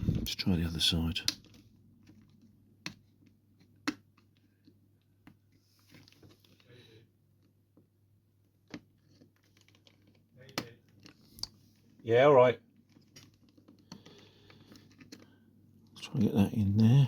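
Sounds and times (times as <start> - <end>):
soft handling rustle: 1.0 - 16.0.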